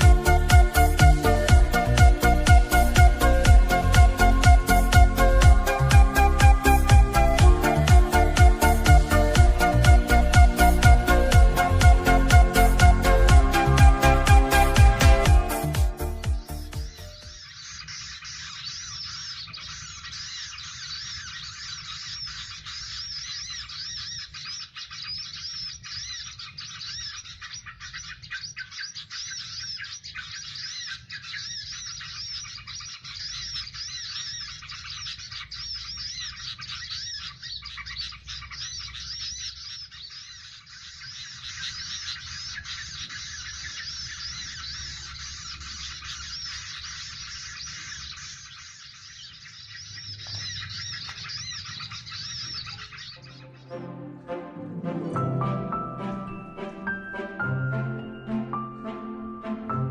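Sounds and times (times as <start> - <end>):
small birds chirping: 0.0 - 54.2.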